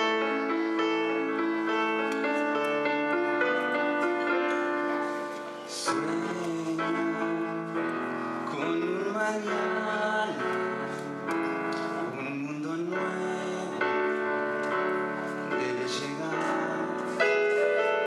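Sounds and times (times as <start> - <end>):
electronic keyboard piano chords: 0.0 - 18.0
man singing into a microphone: 3.4 - 18.0.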